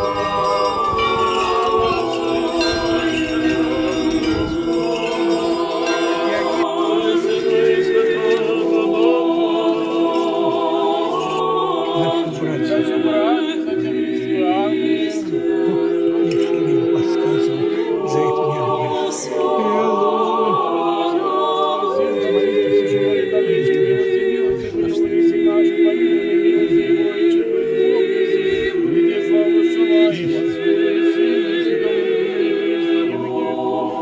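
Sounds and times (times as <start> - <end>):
church choir singing a cappella: 0.0 - 34.0.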